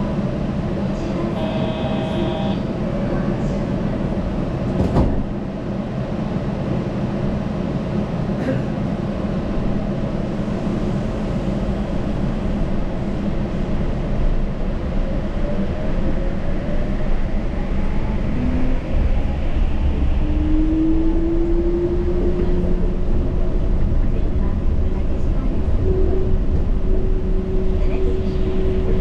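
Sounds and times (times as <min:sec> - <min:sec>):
train running noise rumble: 0:00.0 - 0:29.0.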